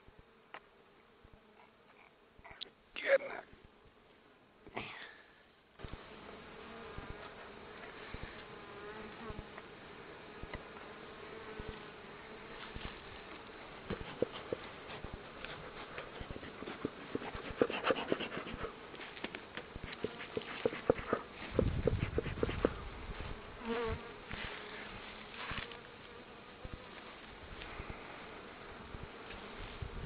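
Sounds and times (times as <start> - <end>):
bees buzzing: 5.8 - 29.9.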